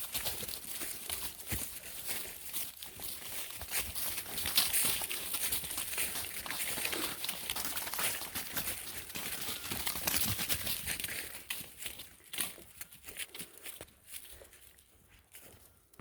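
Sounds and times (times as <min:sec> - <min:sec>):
dry leaves crackling and rustling: 0:00.0 - 0:14.8.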